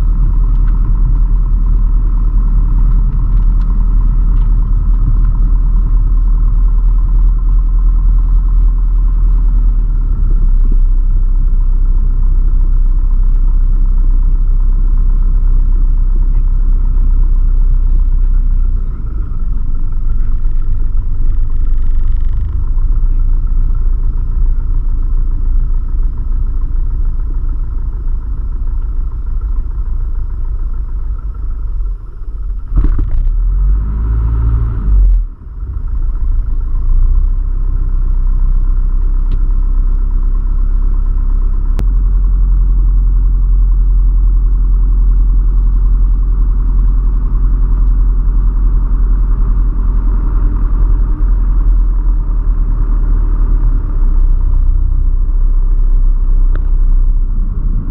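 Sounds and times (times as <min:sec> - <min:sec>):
aircraft engine drone in cabin: 0:00.0 - 0:33.9, 0:34.6 - 0:57.9.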